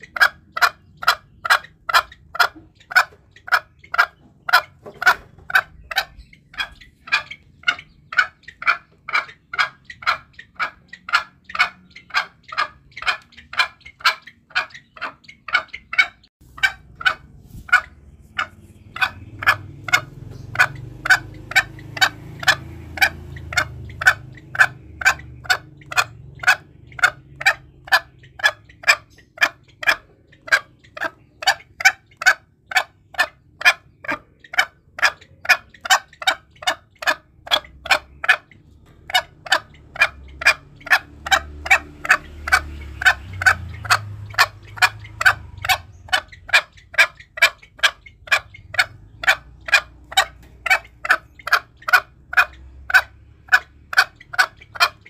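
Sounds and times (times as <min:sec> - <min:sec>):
junglefowl clucking: 0:00.0 - 0:55.0.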